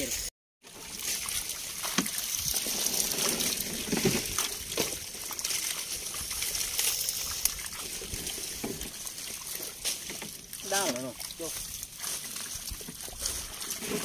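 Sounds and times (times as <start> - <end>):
steady trickling hiss: 0.0 - 14.0
hands sloshing through water: 0.7 - 14.0
small fish flapping and splashing: 0.7 - 14.0.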